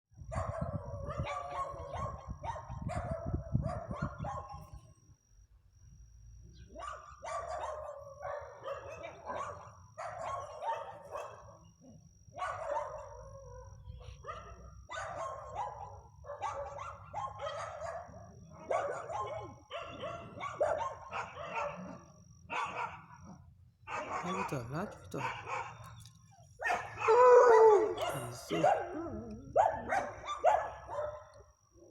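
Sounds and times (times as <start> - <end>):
dogs barking and baying: 0.2 - 4.8, 6.6 - 31.9.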